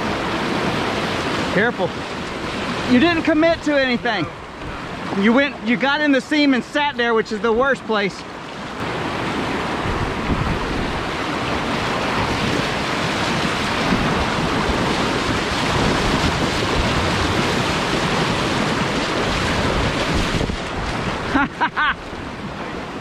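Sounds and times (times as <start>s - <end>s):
whitewater rapids rushing: 0.0s - 23.0s.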